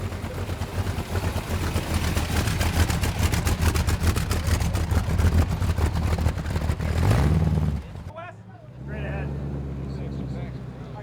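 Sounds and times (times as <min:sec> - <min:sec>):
car engine with loud exhaust: 0:00.0 - 0:11.0.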